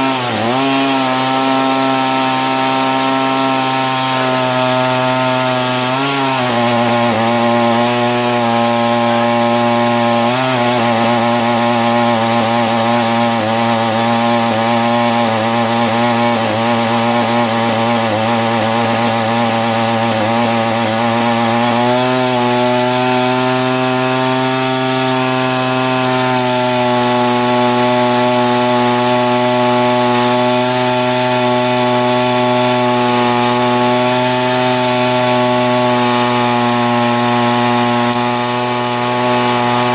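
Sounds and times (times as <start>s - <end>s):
chainsaw engine under load: 0.0s - 39.9s.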